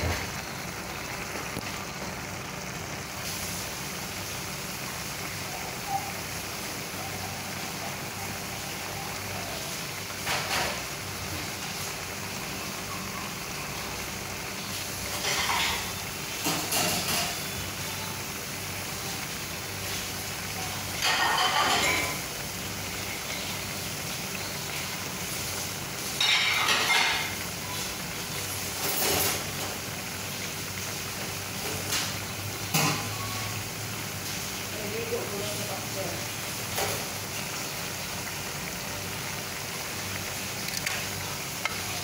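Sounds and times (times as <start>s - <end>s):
pan simmering with hiss: 0.0s - 42.0s.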